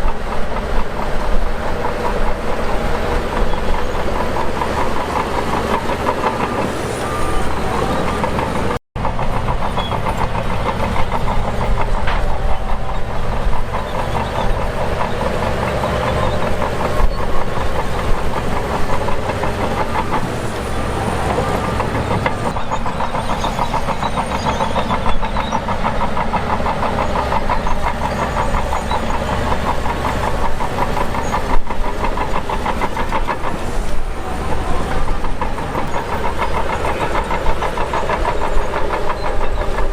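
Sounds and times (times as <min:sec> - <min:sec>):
bulldozer engine clattering: 0:00.0 - 0:39.9.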